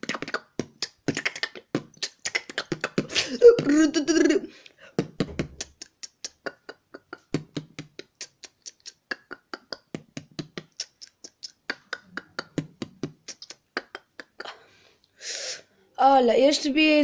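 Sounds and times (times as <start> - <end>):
boy beatboxing: 0.0 - 14.6.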